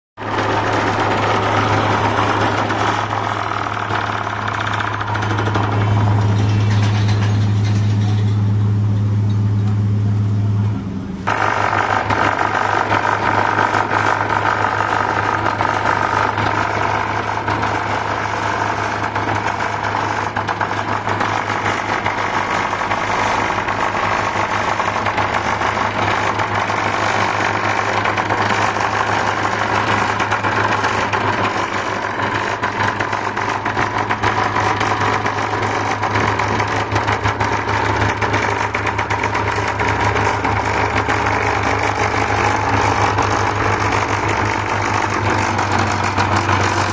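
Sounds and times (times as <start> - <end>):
engine running with fast pulsing: 0.2 - 46.9.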